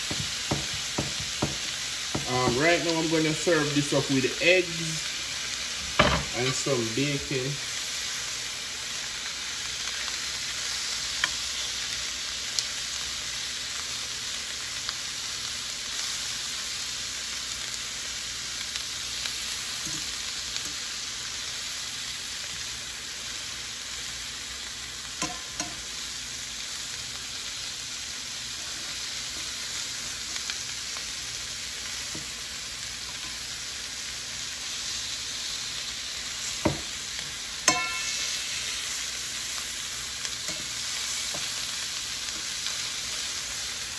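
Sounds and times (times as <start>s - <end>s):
meat sizzling in a skillet: 0.0s - 43.9s.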